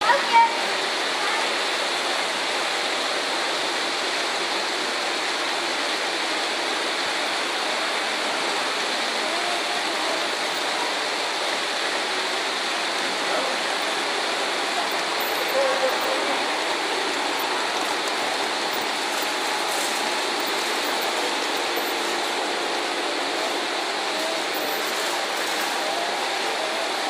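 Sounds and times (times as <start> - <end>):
heavy rain on glass roof: 0.0 - 27.0.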